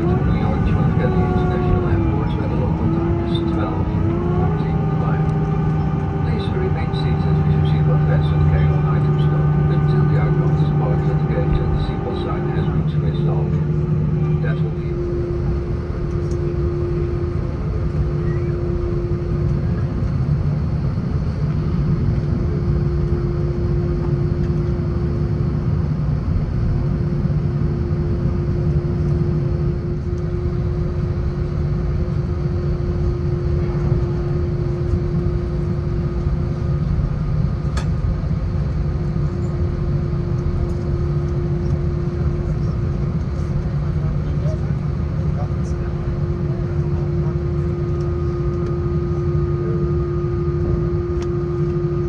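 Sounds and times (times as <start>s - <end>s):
aircraft cabin rumble: 0.0s - 52.0s
jet engines idling hum: 0.0s - 52.0s.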